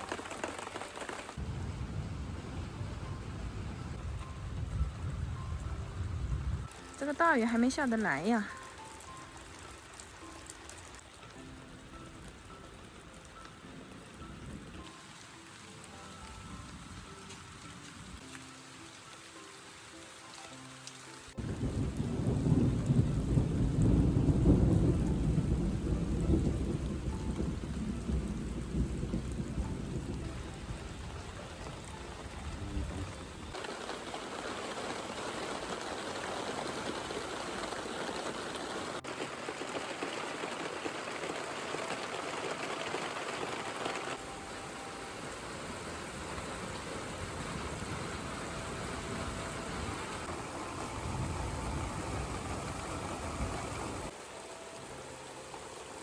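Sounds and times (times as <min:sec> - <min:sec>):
thunder rumbling: 0:00.0 - 0:08.7, 0:11.8 - 0:18.2, 0:21.4 - 0:56.0
heavy rain pouring: 0:00.0 - 0:56.0.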